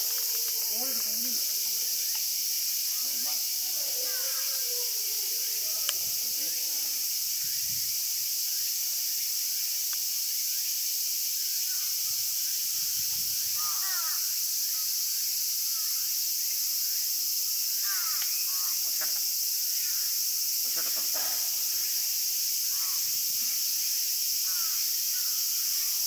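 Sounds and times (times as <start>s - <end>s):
cicada chorus drone: 0.0s - 26.0s.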